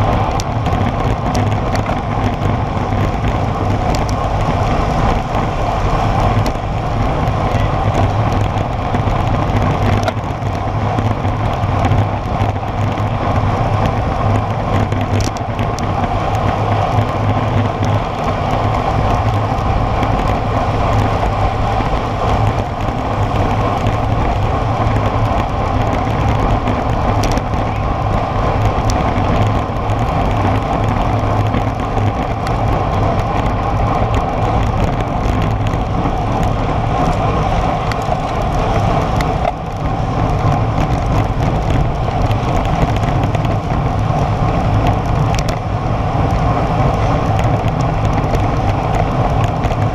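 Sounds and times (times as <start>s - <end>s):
tyre noise on asphalt: 0.0s - 49.9s
wind rush on microphone: 0.0s - 49.9s.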